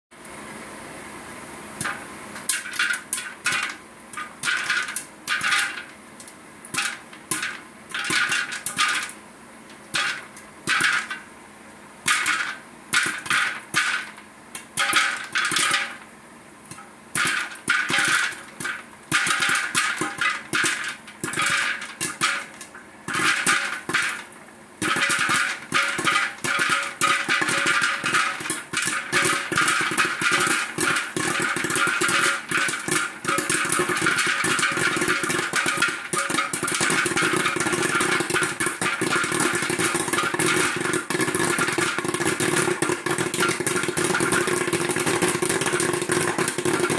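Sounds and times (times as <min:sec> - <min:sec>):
popcorn popper humming: 0:00.2 - 0:46.9
popcorn popping: 0:01.7 - 0:11.4, 0:12.0 - 0:46.9.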